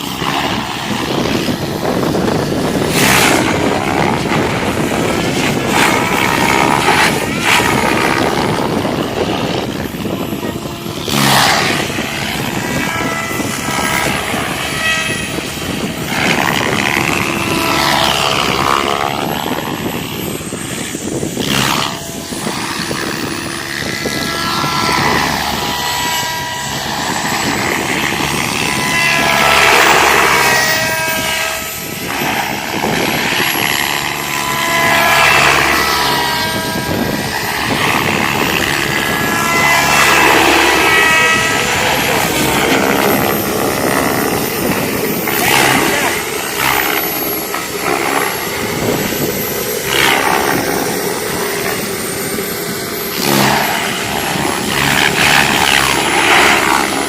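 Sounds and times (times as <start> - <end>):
helicopter motor whine: 0.0 - 57.0
rotor blade noise: 0.0 - 57.0.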